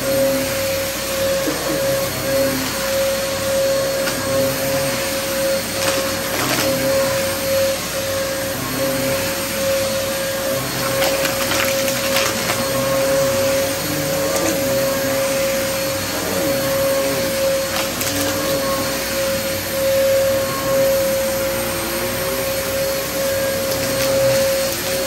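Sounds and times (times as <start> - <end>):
vacuum cleaner whining: 0.0 - 25.0.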